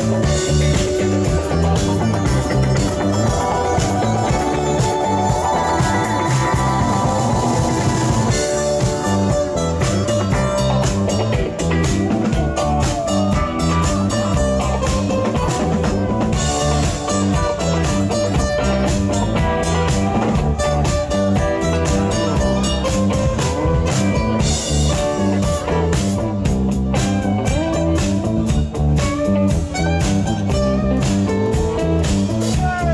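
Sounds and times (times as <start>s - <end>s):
drum kit steady beat: 0.0s - 32.9s
electric and acoustic guitars: 0.0s - 32.9s.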